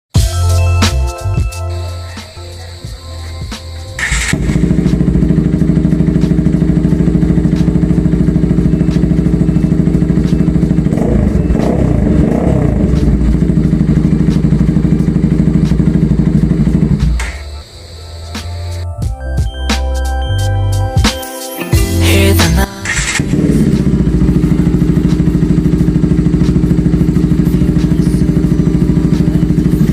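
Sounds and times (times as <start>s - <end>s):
motorcycle engine idling: 0.2s - 20.8s, 22.1s - 29.9s.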